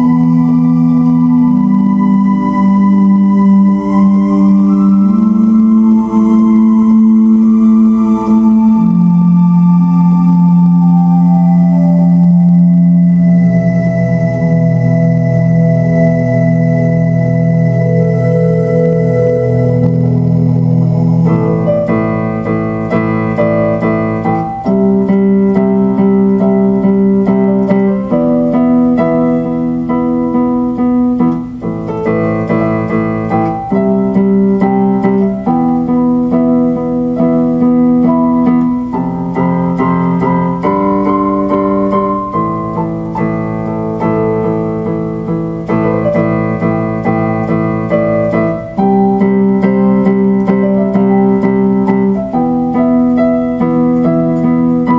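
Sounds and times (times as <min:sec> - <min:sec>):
electric piano chords: 0:00.0 - 0:54.9.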